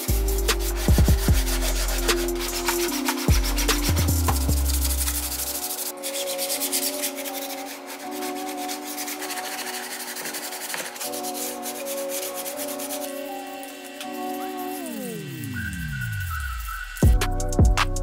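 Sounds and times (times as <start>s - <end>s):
aerosol spray can hissing: 0.0s - 15.7s
sandpaper scratching plastic: 0.0s - 17.0s
background music: 0.0s - 18.0s.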